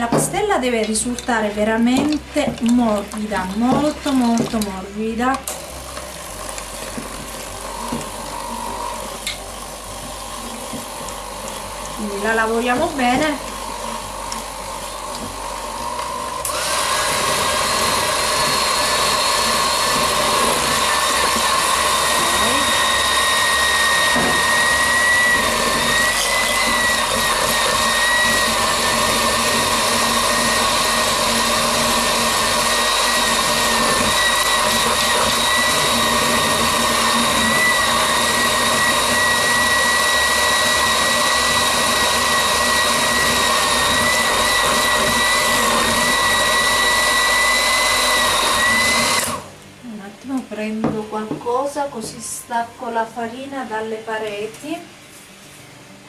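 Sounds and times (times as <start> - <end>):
electric mixer motor whining: 0.0 - 49.6.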